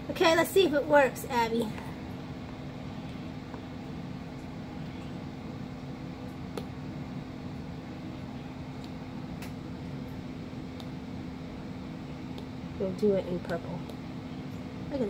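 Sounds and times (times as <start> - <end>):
mechanical room hum: 0.0 - 15.0.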